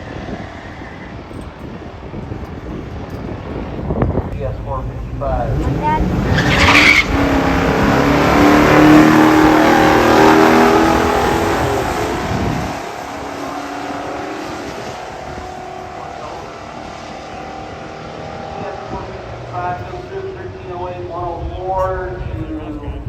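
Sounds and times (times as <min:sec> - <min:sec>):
race car engines at full throttle: 0:00.0 - 0:23.0.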